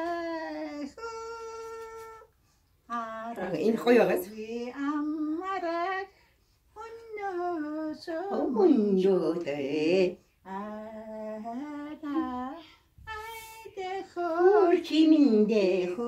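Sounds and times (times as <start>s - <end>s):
women singing together: 0.0s - 2.2s, 2.9s - 6.1s, 6.8s - 16.0s.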